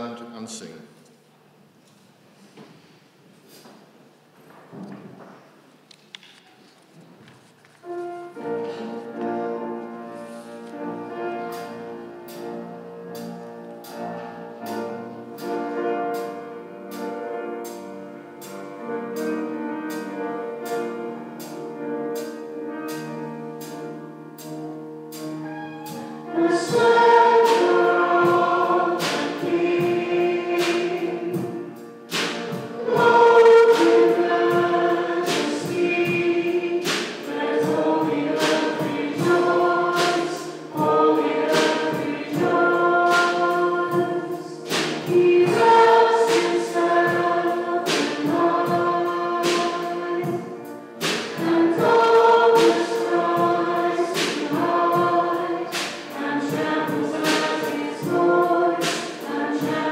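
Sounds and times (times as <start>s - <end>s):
congregation singing: 7.8s - 59.9s.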